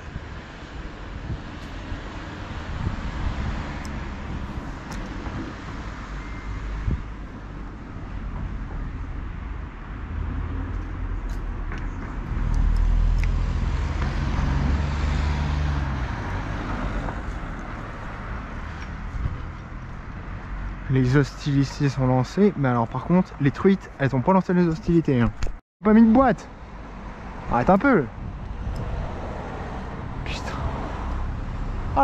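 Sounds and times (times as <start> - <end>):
vehicle engine rumble: 0.0 - 32.0.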